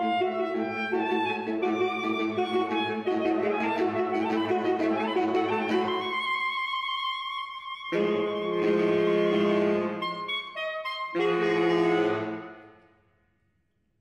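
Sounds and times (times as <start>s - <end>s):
saxophone quartet playing: 0.0s - 6.4s, 7.9s - 12.8s.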